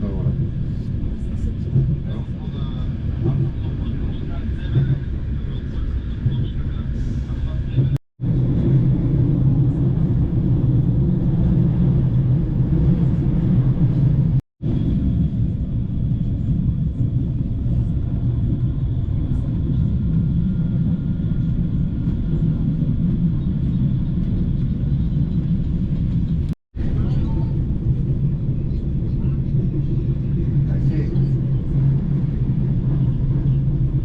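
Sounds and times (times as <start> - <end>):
train rumbling along the line: 0.0 - 34.0.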